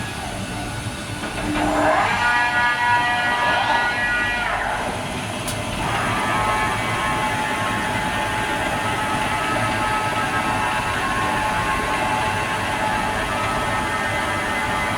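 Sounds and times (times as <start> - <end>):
milling machine whining: 0.0 - 14.9.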